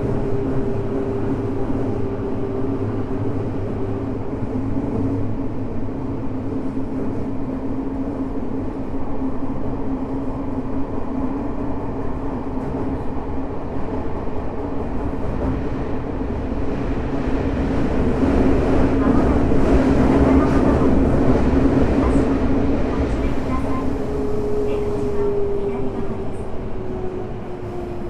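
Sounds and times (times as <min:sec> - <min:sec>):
steady train hum: 0:00.0 - 0:28.0
subway train wheels rumbling on rail: 0:00.0 - 0:28.0.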